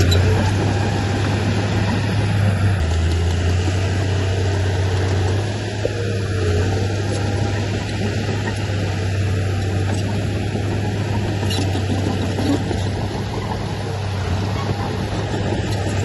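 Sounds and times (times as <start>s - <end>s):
diesel machinery engine running: 0.0s - 16.0s.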